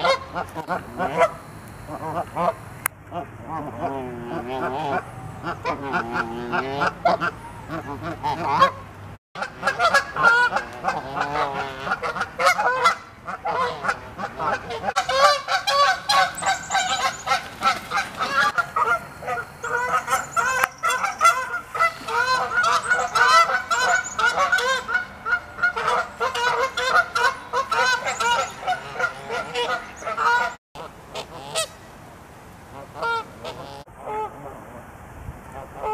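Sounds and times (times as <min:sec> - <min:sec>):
geese honking: 0:00.0 - 0:31.7, 0:32.8 - 0:34.5.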